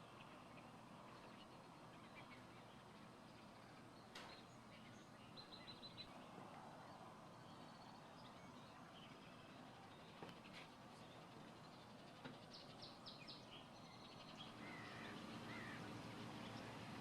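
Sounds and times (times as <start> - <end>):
birds chirping: 0.0 - 17.0
low steady hiss: 0.0 - 17.0.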